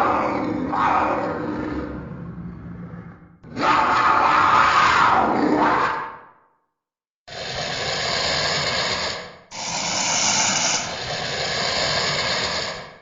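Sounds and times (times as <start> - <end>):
creature harsh breathy rasping calls: 0.0 - 6.3, 7.3 - 13.0.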